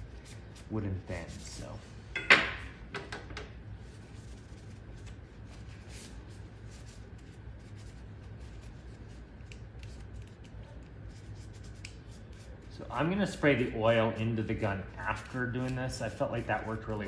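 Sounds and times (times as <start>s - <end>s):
paper towel rubbing on metal: 0.0s - 2.0s, 3.8s - 17.0s.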